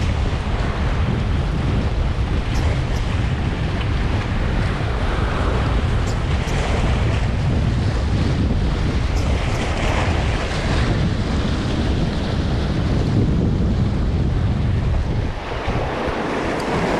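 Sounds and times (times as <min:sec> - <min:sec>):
waves washing against shore: 0:00.0 - 0:16.9
wind blowing across microphone: 0:00.0 - 0:16.9.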